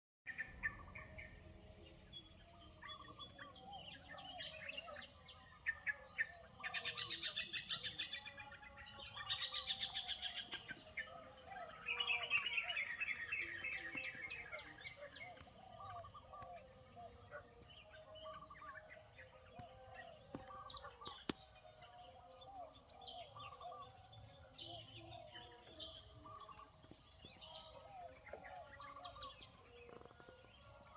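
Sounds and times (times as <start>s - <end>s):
birds chirping and singing: 0.3s - 30.9s
high-pitched insect chorus: 0.4s - 30.9s.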